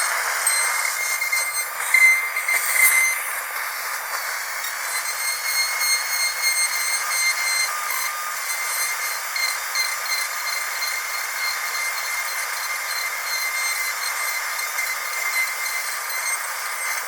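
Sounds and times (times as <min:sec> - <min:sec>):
dental drill whine: 0:00.0 - 0:17.0.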